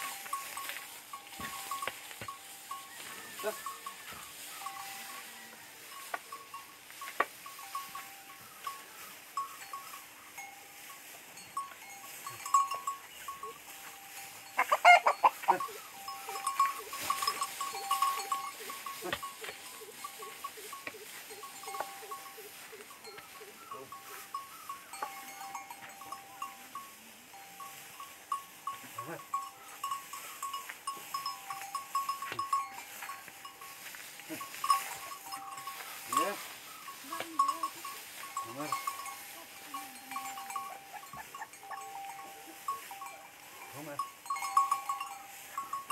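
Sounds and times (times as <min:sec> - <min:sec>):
bullocks treading stalks: 0:00.0 - 0:45.9.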